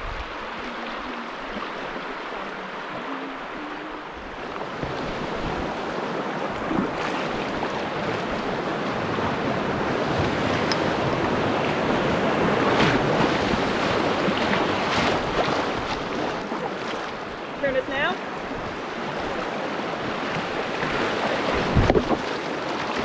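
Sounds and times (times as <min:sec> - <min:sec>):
whitewater rushing: 0:00.0 - 0:23.0.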